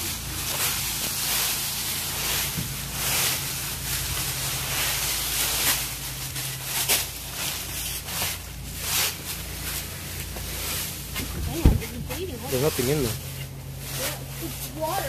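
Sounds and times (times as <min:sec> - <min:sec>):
rake dragging through dry leaves: 0:00.0 - 0:15.0
steady low hum: 0:00.0 - 0:15.0.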